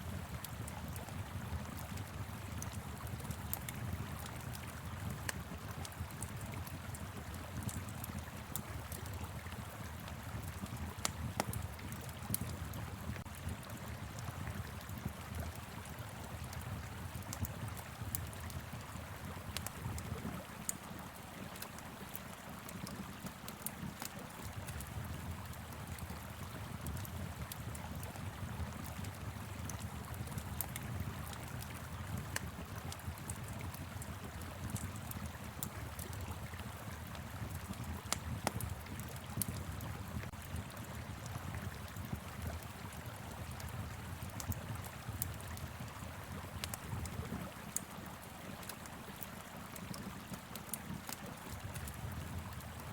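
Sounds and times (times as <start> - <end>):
wood fire crackling: 0.2 - 52.9.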